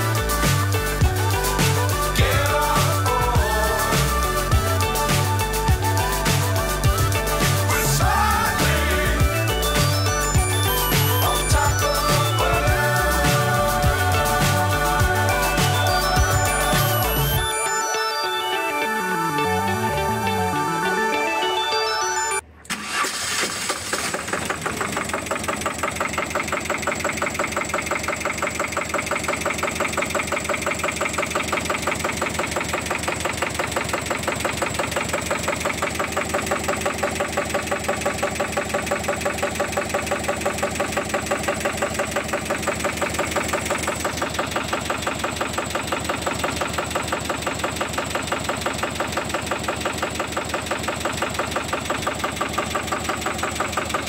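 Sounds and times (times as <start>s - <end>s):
diesel engine running: 0.0s - 17.5s, 22.8s - 54.0s.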